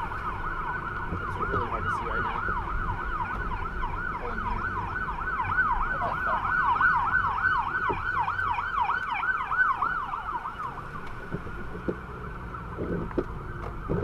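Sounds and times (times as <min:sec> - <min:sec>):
siren yelping: 0:00.0 - 0:11.7
car rumbling on road: 0:00.0 - 0:14.0.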